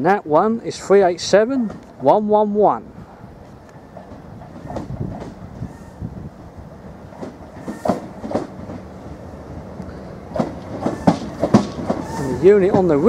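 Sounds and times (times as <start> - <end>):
train hum: 0.0 - 13.0
wheels clacking over rail joints: 0.4 - 2.4, 3.4 - 6.1, 6.8 - 13.0.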